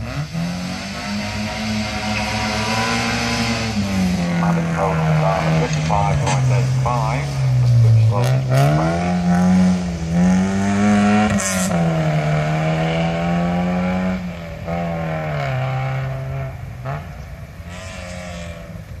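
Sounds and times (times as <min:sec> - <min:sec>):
race car engine at full throttle: 0:00.0 - 0:19.0.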